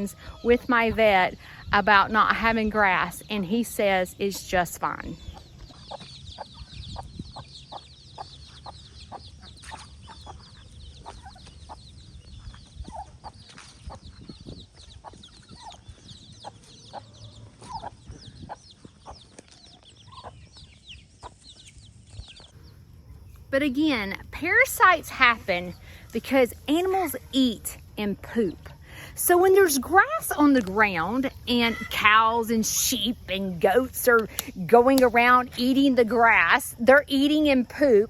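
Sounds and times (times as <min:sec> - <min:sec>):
chickens clucking: 0:00.0 - 0:23.4, 0:24.1 - 0:36.6.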